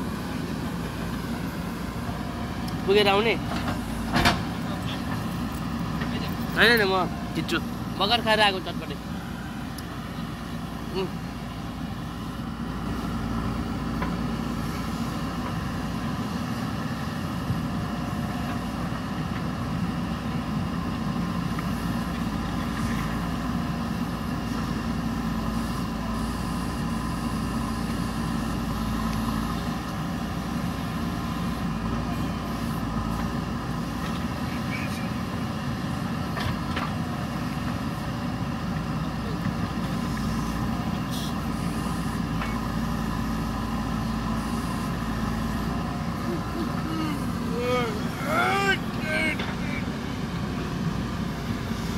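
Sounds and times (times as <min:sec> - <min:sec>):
diesel engine under load: 0:00.0 - 0:51.9.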